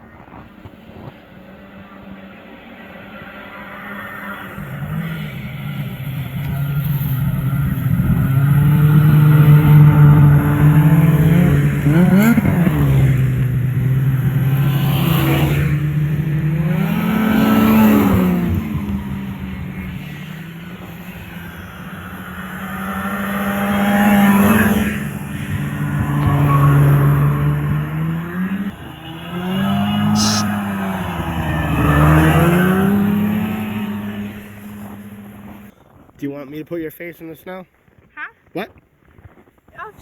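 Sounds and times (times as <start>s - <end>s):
snowmobile engines passing: 0.0s - 36.1s.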